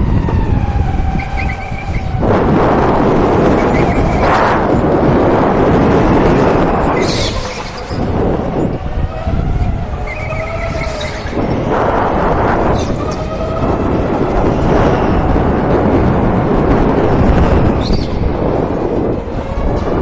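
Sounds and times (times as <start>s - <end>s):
rushing of tyres and air: 0.0s - 20.0s.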